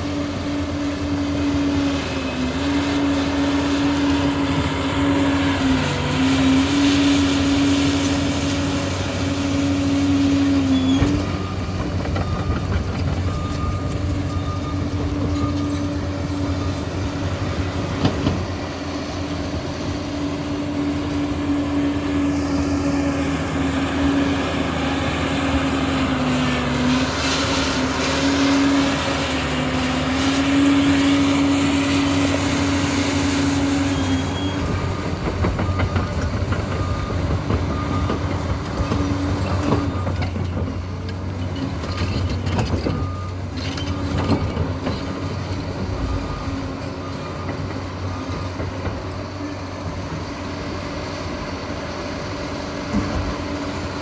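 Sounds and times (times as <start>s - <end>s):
dozer engine whining: 0.0s - 54.0s.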